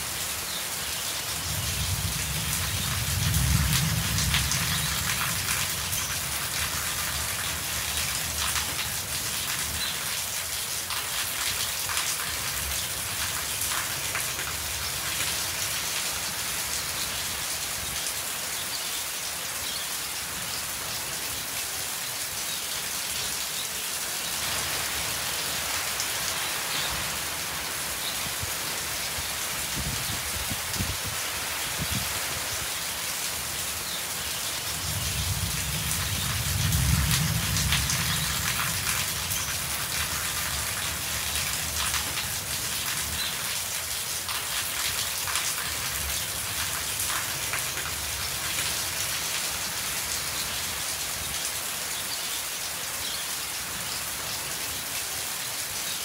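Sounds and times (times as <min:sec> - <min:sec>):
rain on metal roofs: 0:00.0 - 0:56.0.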